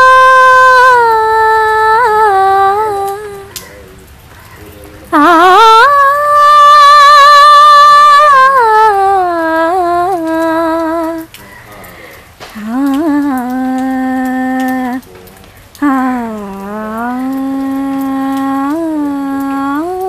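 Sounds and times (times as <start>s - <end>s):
woman singing unaccompanied: 0.0s - 3.6s, 5.1s - 11.4s, 12.4s - 15.1s, 15.8s - 20.0s.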